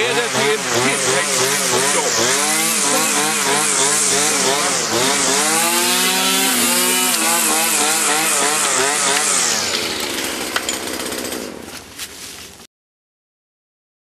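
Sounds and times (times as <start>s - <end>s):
brush cutter engine revving: 0.0s - 12.1s.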